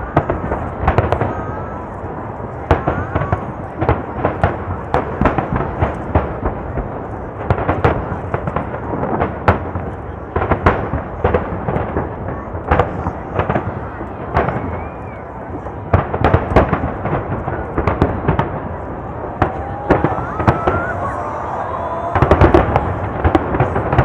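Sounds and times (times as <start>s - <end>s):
fireworks bursting with sharp bangs: 0.0s - 24.0s
rumble of echoing explosions: 0.0s - 24.0s.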